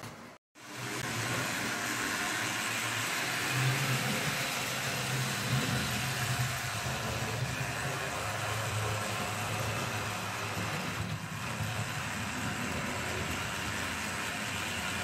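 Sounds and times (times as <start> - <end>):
model trains whirring on rails: 0.6 - 15.0.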